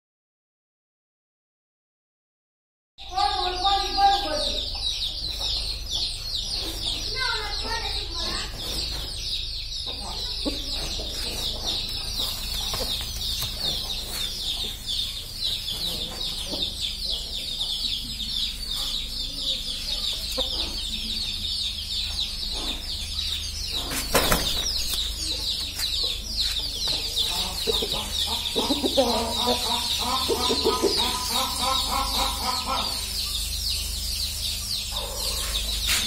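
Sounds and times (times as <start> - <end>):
chorus of high chirps: 3.0 - 36.0
chickens clucking: 3.1 - 36.0.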